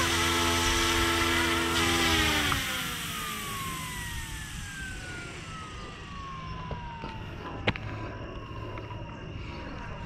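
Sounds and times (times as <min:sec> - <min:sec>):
helicopter motor whine spinning down: 0:00.0 - 0:10.0.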